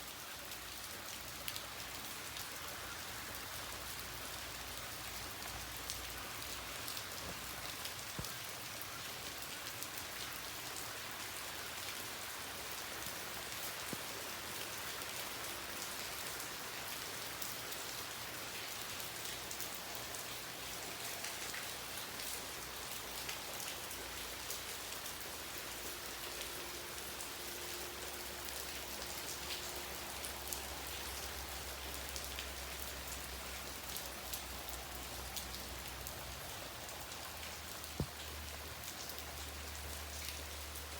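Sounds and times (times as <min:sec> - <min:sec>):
rain falling: 0:00.0 - 0:40.9
raindrops ticking on surfaces: 0:00.0 - 0:40.9.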